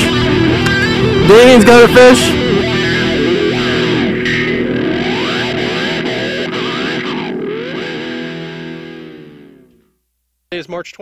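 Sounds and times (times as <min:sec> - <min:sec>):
distorted electric guitar music: 0:00.0 - 0:09.9.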